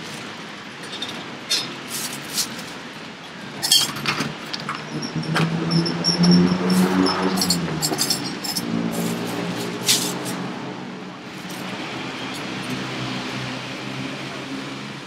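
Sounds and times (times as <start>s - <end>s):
vehicle engine humming: 2.0s - 15.0s.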